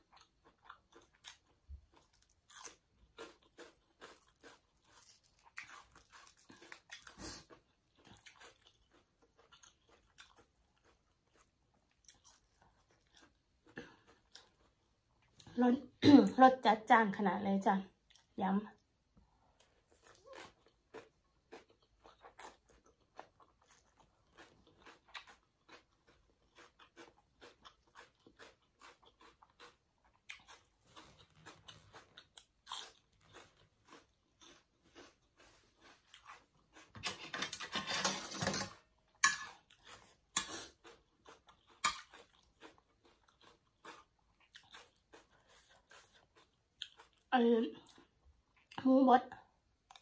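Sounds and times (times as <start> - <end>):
chewing and crunching: 0.0 - 15.6, 19.4 - 38.0, 38.6 - 48.8.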